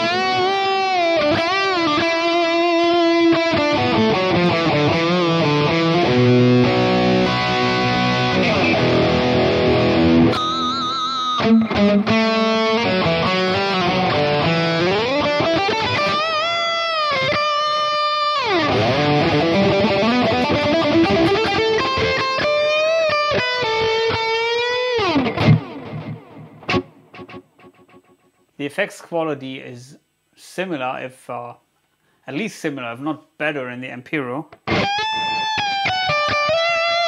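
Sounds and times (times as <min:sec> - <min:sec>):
electric guitar lead with delay: 0:00.0 - 0:27.9, 0:34.7 - 0:37.0.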